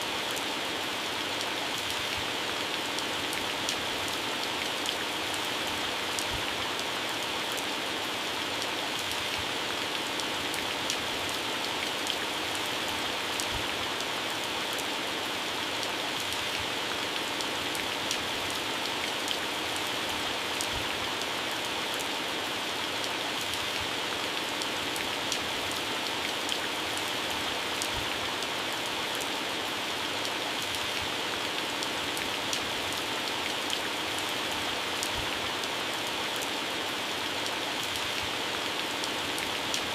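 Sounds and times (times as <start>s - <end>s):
heavy rain on plants and grass: 0.0s - 39.9s.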